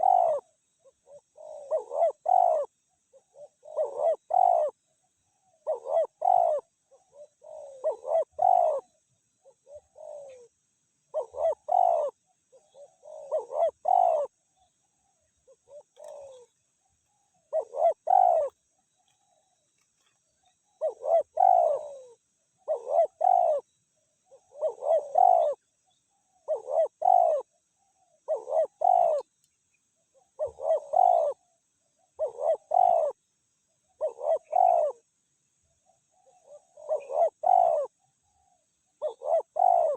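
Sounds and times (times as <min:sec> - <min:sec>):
dove cooing: 0:00.0 - 0:04.8, 0:05.4 - 0:16.6, 0:17.2 - 0:19.6, 0:20.6 - 0:25.7, 0:26.3 - 0:29.3, 0:30.1 - 0:33.2, 0:33.9 - 0:35.1, 0:35.9 - 0:39.9.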